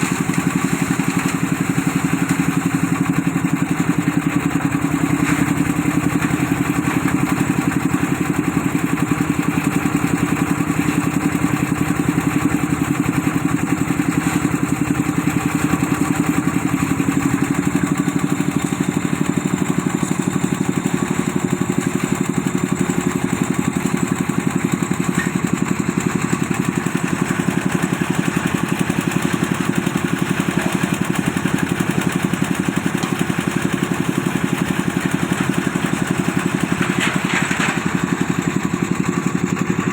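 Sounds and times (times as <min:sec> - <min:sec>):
engine chugging steadily: 0:00.0 - 0:39.9.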